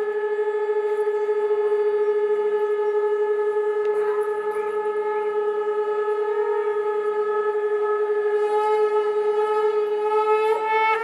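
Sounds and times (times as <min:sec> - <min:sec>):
conch shells blown: 0:00.0 - 0:11.0.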